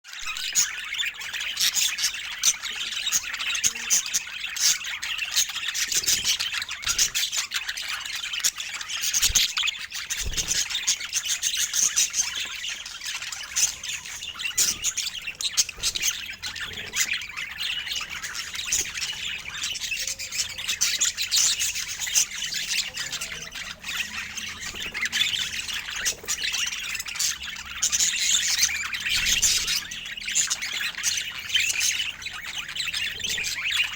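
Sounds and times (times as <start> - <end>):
budgerigars chattering and squawking: 0.1 - 33.9.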